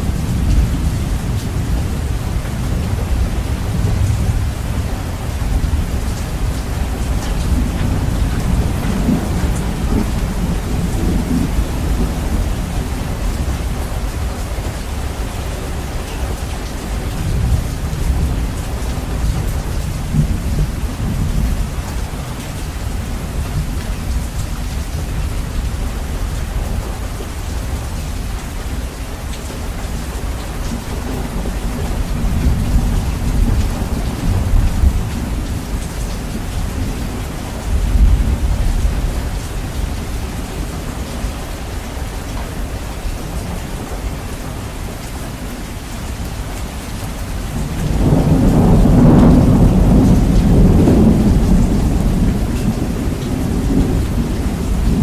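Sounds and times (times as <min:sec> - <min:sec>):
rolling thunder: 0:00.0 - 0:44.9, 0:47.4 - 0:55.0
steady rain: 0:00.0 - 0:55.0.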